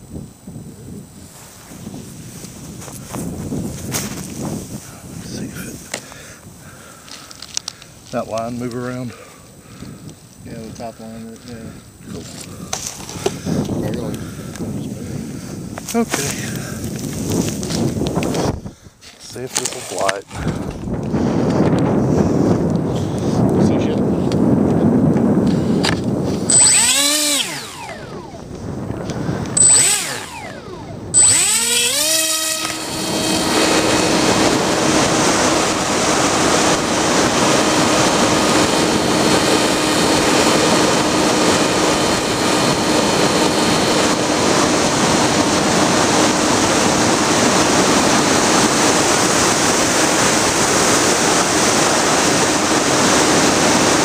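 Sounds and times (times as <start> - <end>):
electric motor whine: 0.0 - 54.0
wind rush: 0.0 - 54.0.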